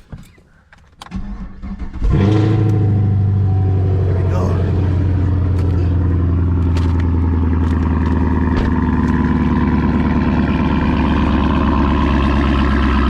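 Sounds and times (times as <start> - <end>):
car engine running: 2.1 - 13.0.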